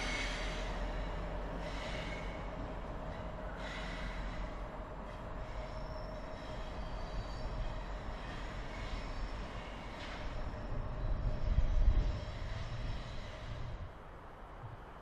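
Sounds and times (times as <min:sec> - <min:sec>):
train locomotive rumbling: 0:00.0 - 0:15.0.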